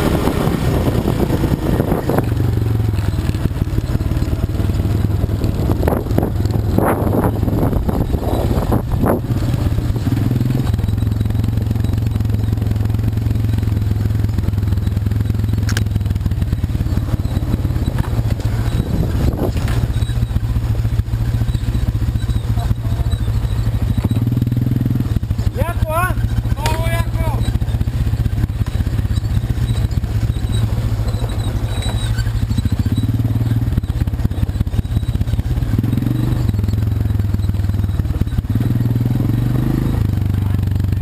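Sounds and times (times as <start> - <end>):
quad bike engine running: 0.0 - 41.0
knocks and rattles: 1.1 - 38.8.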